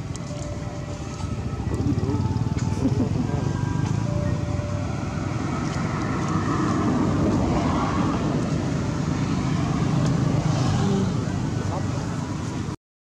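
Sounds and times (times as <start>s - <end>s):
vehicle engine rumbling: 0.0s - 12.8s
vehicle passing: 0.0s - 12.8s.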